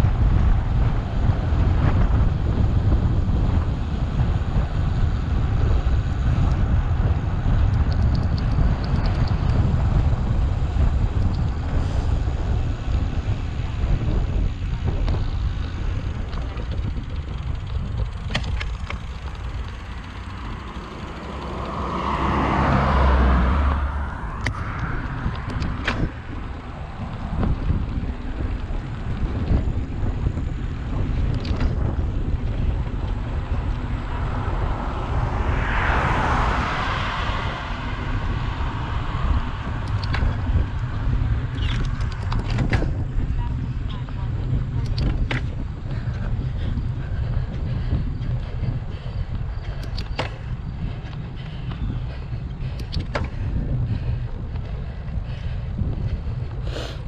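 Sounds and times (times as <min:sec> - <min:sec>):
passing vehicle road noise: 0:00.0 - 0:57.0
wind buffeting microphone: 0:00.0 - 0:57.0.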